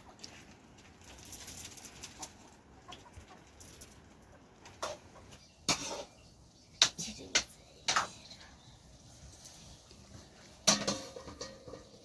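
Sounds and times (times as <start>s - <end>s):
chickens clucking: 0.0s - 0.5s, 1.8s - 12.0s.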